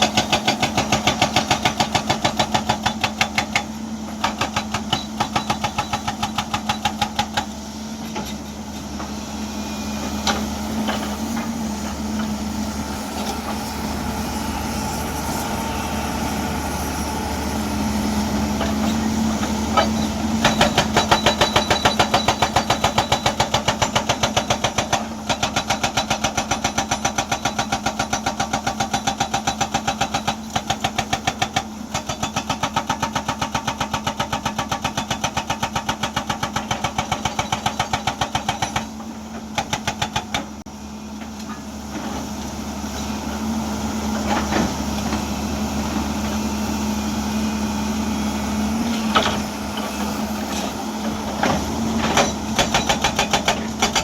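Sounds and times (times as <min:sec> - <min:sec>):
hydraulic breaker hammer pounding rock: 0:00.0 - 0:09.2, 0:09.9 - 0:13.8, 0:18.3 - 0:46.7, 0:48.7 - 0:54.0
excavator diesel engine running: 0:00.0 - 0:54.0.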